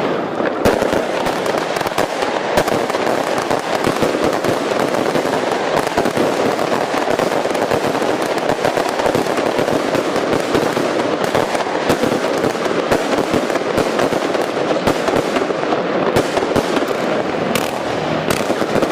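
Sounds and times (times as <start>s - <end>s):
firecrackers bursting: 0.0s - 18.9s.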